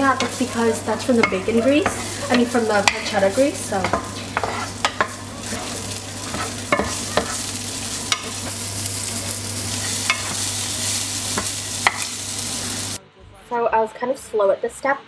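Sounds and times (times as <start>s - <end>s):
spatula knocking and scraping pan: 0.0s - 12.2s
meat sizzling in oil: 0.0s - 13.0s.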